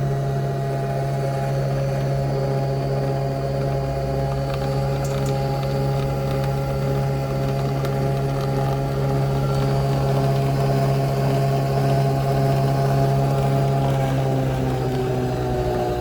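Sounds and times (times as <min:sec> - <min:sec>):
coffee machine motor hum: 0:00.0 - 0:16.0.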